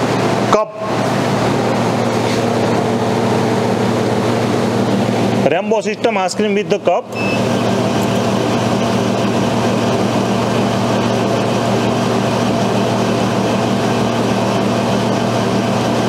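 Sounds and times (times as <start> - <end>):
ice cream machine humming: 0.0 - 16.0.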